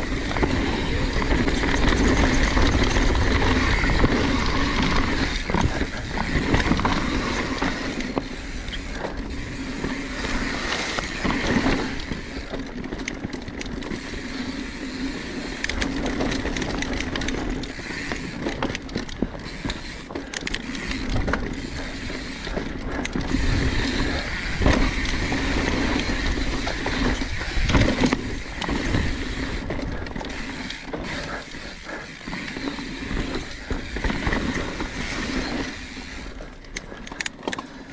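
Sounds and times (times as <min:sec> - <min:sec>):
bike clattering over bumps: 0:00.0 - 0:37.9
tyre and wind noise: 0:00.0 - 0:37.9.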